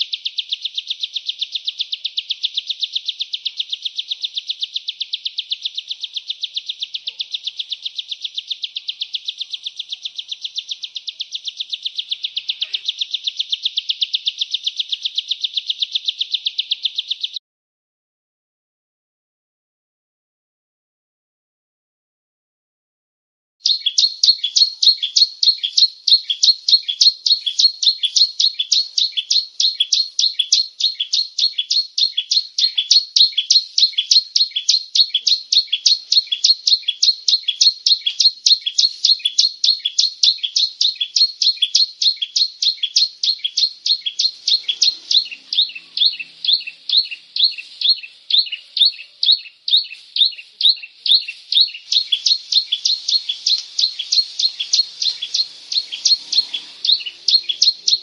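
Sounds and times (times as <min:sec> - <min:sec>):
bird high chipping song: 0:00.0 - 0:17.4, 0:23.6 - 0:58.0.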